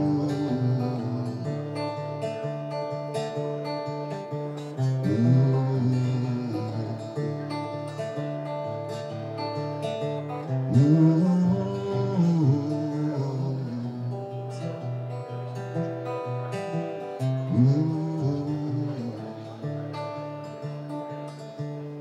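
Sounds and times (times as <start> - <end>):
acoustic guitar picked notes: 0.0 - 22.0.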